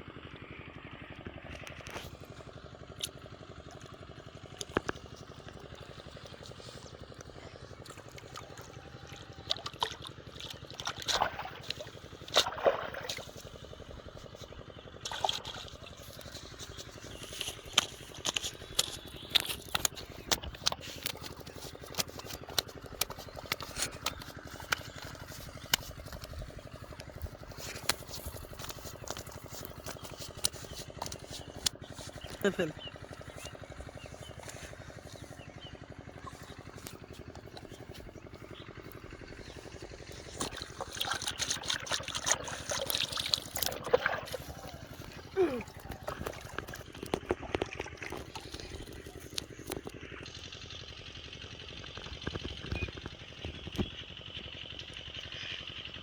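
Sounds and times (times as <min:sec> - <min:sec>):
water splashing and trickling: 0:01.2 - 0:50.6.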